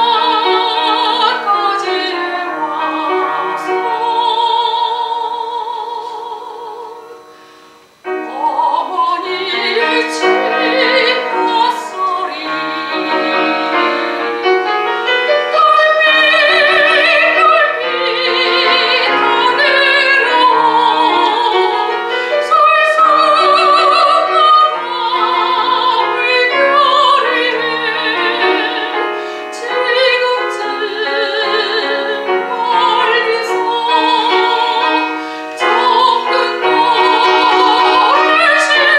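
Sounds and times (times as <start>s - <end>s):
soprano singing operatically: 0.0s - 7.4s, 8.0s - 38.9s
piano accompaniment: 0.0s - 38.9s.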